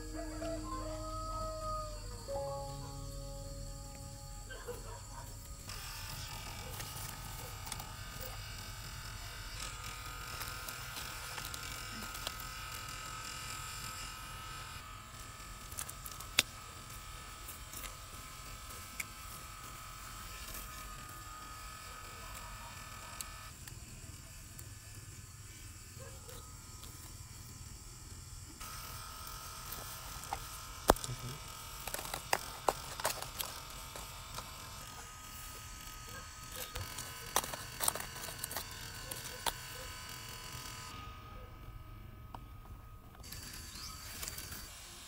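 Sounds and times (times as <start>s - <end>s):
small motor buzzing: 0.0s - 45.0s.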